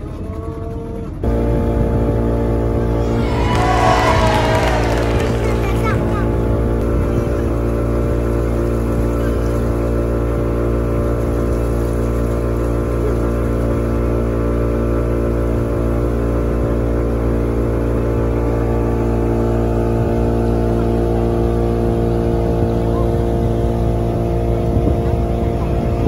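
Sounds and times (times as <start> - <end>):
motorboat engine running: 0.0 - 26.0
water rushing along hull: 0.0 - 26.0.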